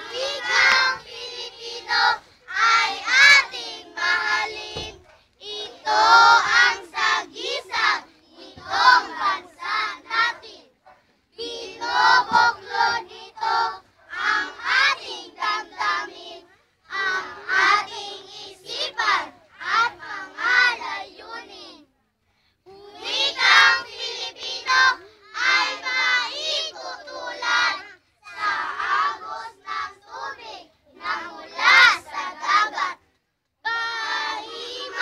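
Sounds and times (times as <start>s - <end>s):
children singing in unison: 0.0s - 10.6s, 11.4s - 21.8s, 22.7s - 33.0s, 33.7s - 35.0s.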